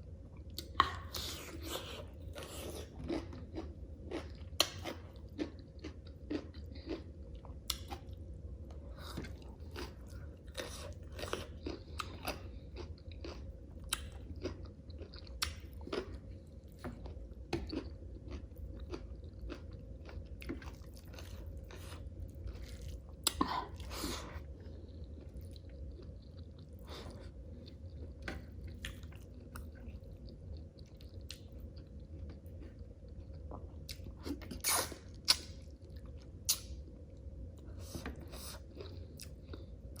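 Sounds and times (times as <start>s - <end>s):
chewing with crisp crunches: 0.3s - 40.0s.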